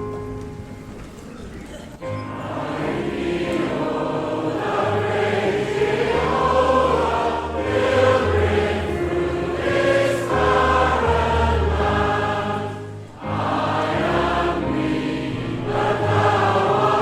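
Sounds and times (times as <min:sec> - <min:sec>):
choir singing a hymn: 0:02.0 - 0:17.0.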